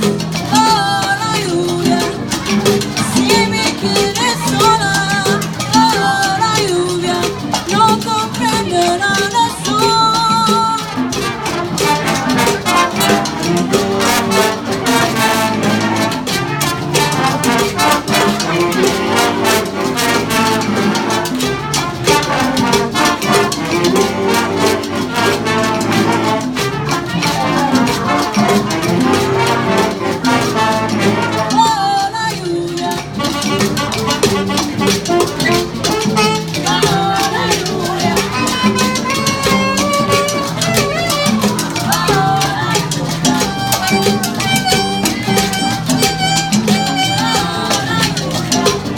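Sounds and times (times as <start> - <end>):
brass section playing salsa: 0.0 - 48.9
latin percussion: 0.0 - 48.9.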